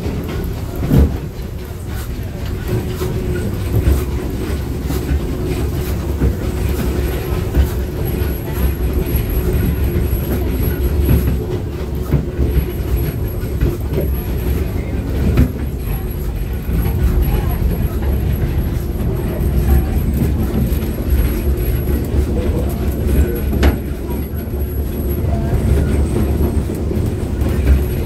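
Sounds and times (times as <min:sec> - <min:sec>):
rail joint clicks: 0:00.0 - 0:28.0
train wheels rumbling on rail: 0:00.0 - 0:28.0.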